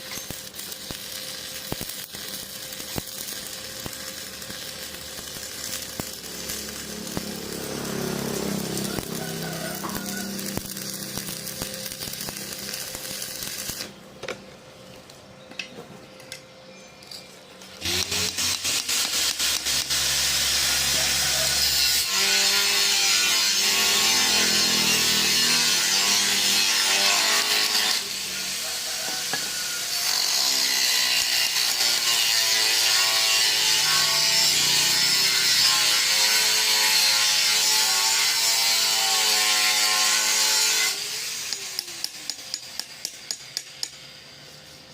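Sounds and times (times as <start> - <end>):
welding arc crackling and hissing: 0.0 - 14.0, 17.7 - 44.9.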